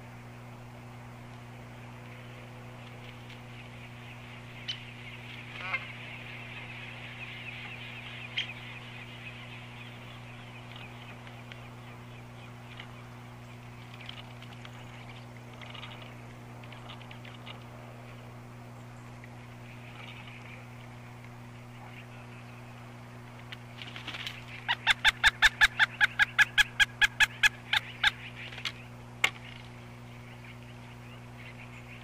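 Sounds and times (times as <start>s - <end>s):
low hum: 0.0s - 32.0s
flock of birds calling: 1.7s - 32.0s.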